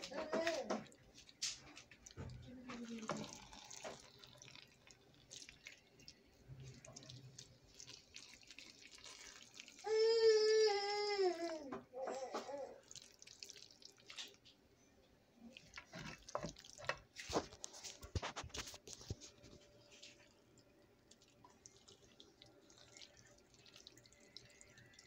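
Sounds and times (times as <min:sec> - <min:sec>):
pasta stirred with spatula: 0:00.0 - 0:10.0, 0:12.8 - 0:14.6, 0:15.4 - 0:25.0.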